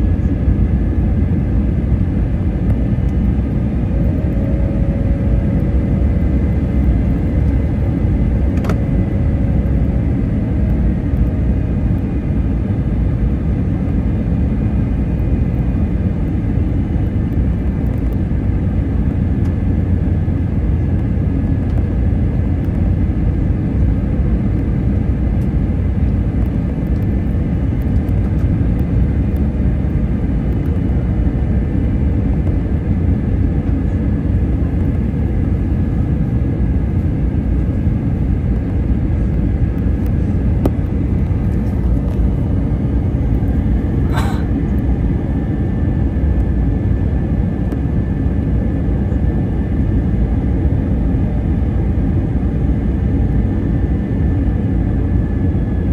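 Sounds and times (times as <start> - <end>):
faint steady whine: 0.0 - 55.9
jet engine and air rumble: 0.0 - 55.9.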